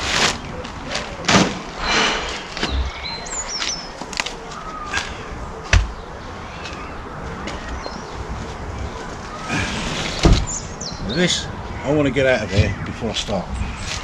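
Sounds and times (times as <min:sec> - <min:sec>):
birds chirping: 0:00.3 - 0:14.0.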